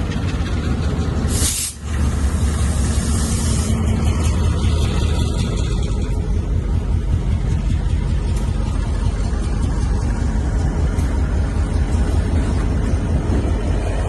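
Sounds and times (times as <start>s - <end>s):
locomotive low rumble: 0.0s - 14.0s.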